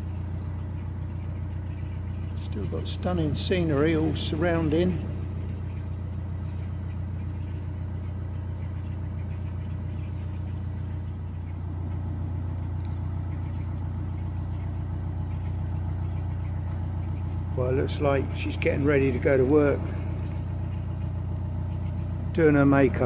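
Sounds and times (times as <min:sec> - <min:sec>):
boat diesel engine drone: 0:00.0 - 0:23.0.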